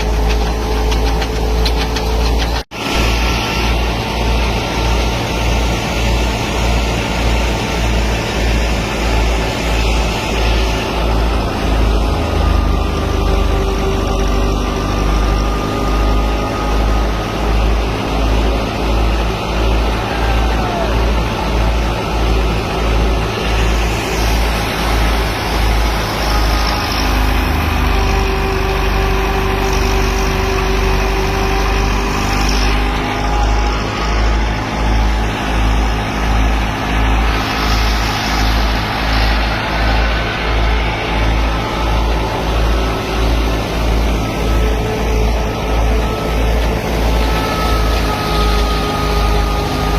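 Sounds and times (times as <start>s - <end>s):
faint whine: 0.0s - 49.9s
tractor engine throbbing: 0.0s - 49.9s.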